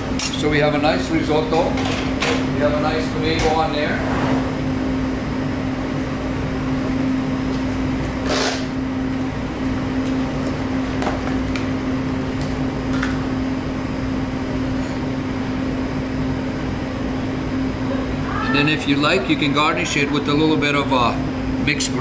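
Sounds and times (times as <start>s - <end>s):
kitchen machinery humming: 0.0s - 22.0s.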